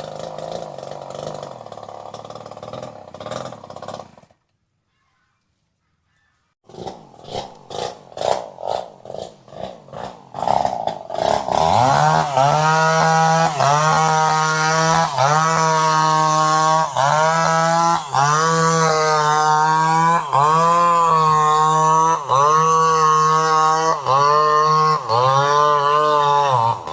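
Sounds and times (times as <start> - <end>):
chainsaw engine revving: 0.0 - 4.5, 6.7 - 26.9.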